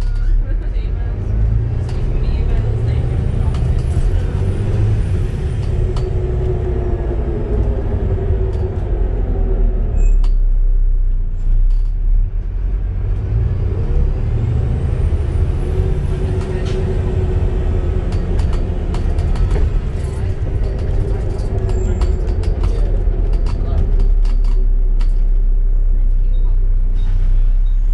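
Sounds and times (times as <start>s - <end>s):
bus engine running: 0.0s - 27.9s.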